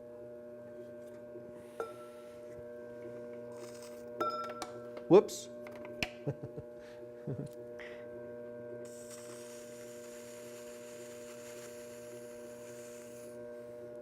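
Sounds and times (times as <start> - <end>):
potter's wheel motor humming: 0.0 - 14.0.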